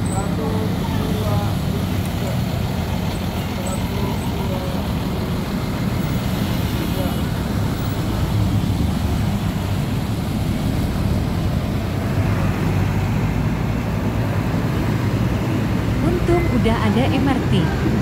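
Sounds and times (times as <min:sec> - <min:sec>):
bus engines rumbling: 0:00.0 - 0:18.0
city traffic: 0:00.0 - 0:18.0.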